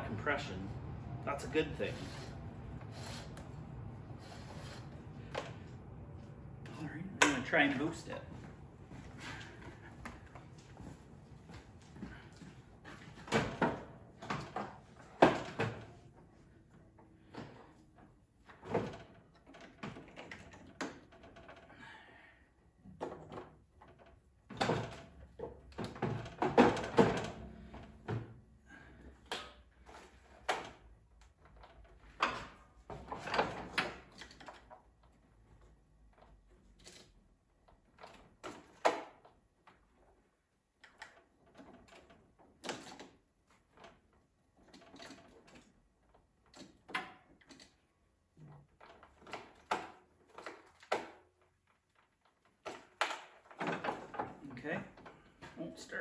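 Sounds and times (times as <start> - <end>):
knocks and rattles of tools: 1.3 - 22.0, 22.8 - 55.7.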